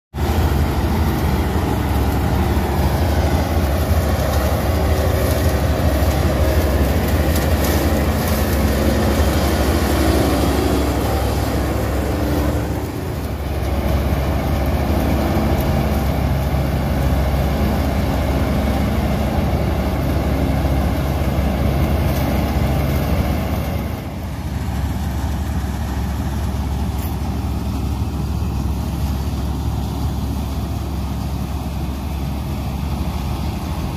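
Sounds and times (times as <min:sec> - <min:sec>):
combine harvester engine drone: 0:00.2 - 0:33.9.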